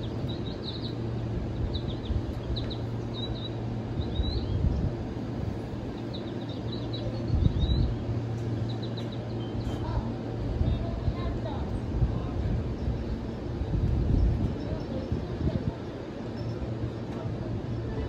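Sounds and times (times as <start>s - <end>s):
electric train humming: 0.0s - 18.0s
small birds chirping: 0.0s - 18.0s.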